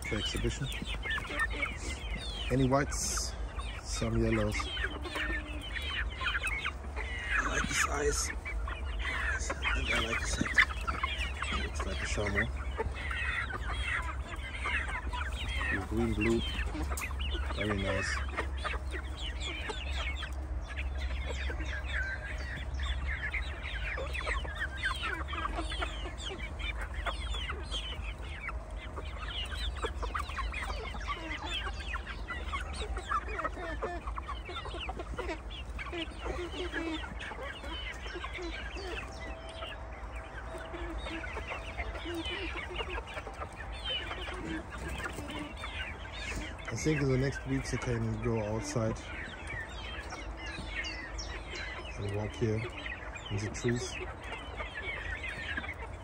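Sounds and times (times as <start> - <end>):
chicks chirping and clucking: 0.0 - 56.0.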